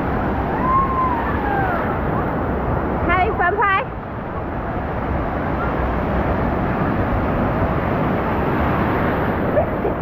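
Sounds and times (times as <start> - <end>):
surf rushing: 0.0 - 10.0.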